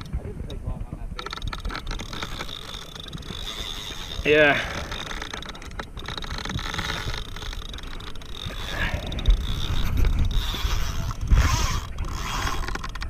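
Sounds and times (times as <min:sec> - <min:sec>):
water and wind rumble: 0:00.0 - 0:13.0
fishing reel clicking: 0:01.2 - 0:13.0.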